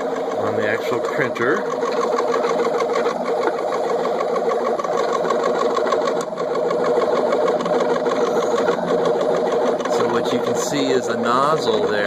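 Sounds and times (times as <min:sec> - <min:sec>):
three-d printer stepper motors whining: 0:00.0 - 0:12.0.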